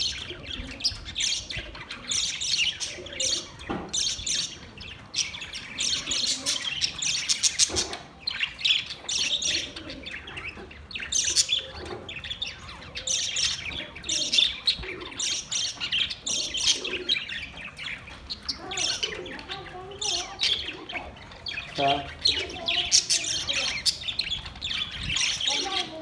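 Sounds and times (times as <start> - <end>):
budgerigars chattering: 0.0 - 26.0.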